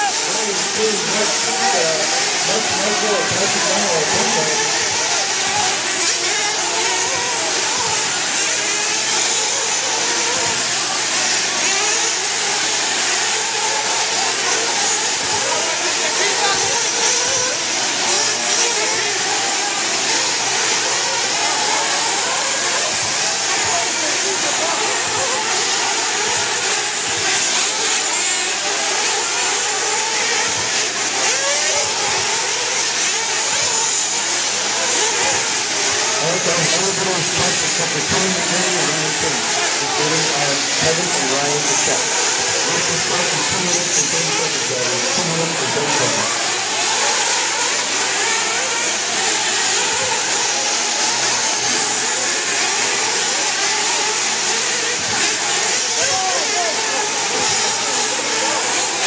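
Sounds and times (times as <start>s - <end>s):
buzzing model car engines revving: 0.0s - 59.0s.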